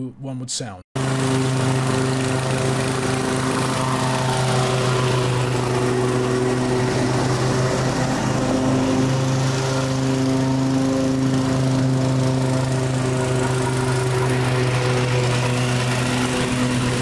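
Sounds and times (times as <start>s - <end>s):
lawn mower engine running: 1.0s - 17.0s.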